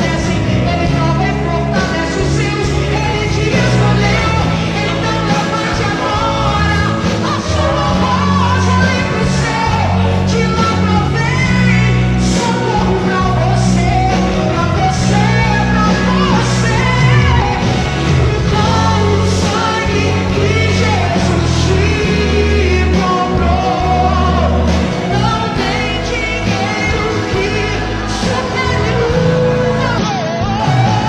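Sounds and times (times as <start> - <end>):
amplified instrumental accompaniment: 0.0 - 31.0.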